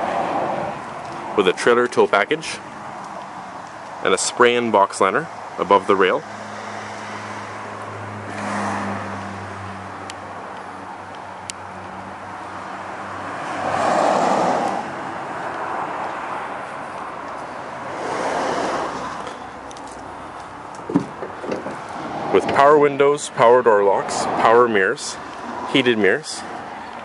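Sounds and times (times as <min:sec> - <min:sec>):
cars passing by: 0:00.0 - 0:27.0.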